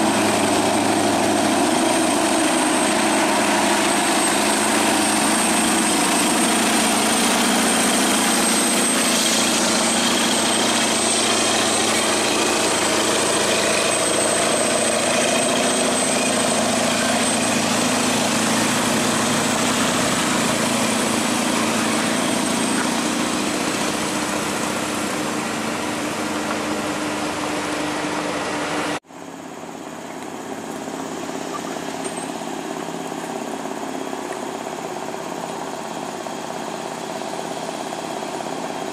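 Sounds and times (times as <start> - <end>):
distant truck engine: 0.0 - 38.9
truck diesel engine under load: 0.0 - 38.9.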